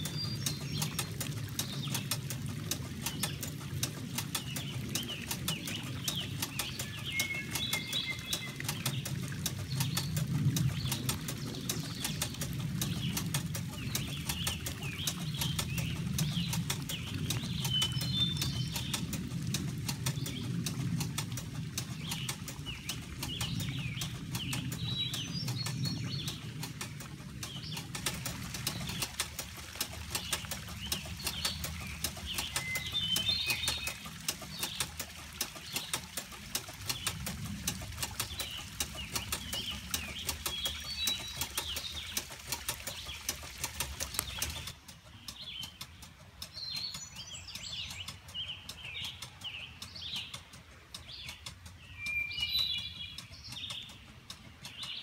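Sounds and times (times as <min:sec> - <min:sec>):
birds chirping: 0:00.0 - 0:55.0
water running and splashing: 0:00.0 - 0:55.0
watermill clicking clatter: 0:00.0 - 0:55.0.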